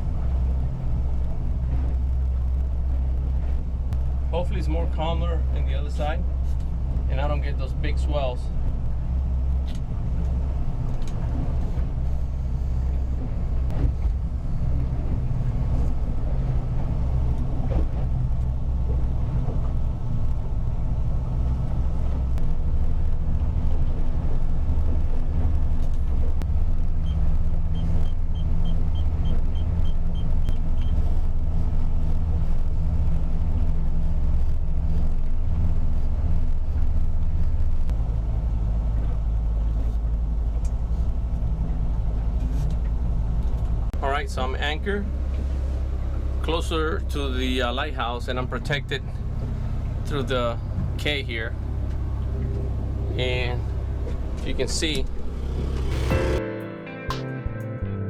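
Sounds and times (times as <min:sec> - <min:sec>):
boat engine running: 0:00.0 - 0:56.5.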